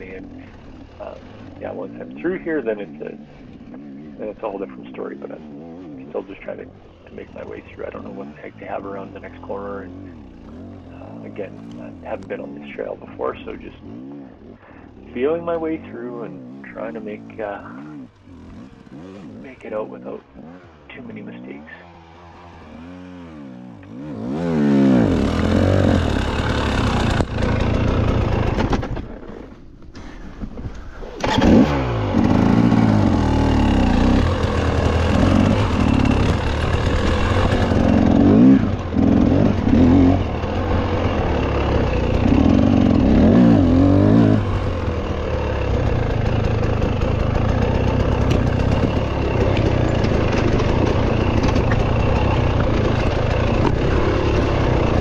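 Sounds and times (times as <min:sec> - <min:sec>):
dirt bike engine revving: 0:00.0 - 0:30.2, 0:31.0 - 0:55.0.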